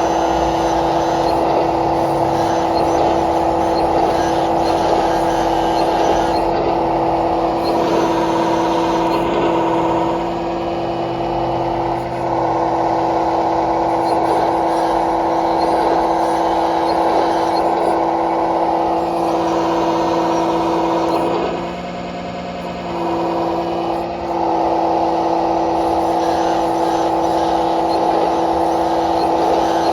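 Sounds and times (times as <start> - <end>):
loud whine: 0.0 - 29.9
model excavator hum: 0.0 - 29.9.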